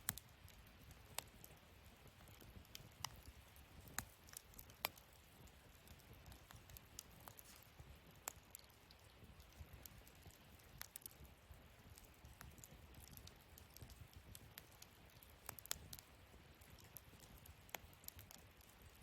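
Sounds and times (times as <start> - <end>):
fire low rumble: 0.0 - 19.0
wood fire crackling: 0.0 - 19.0.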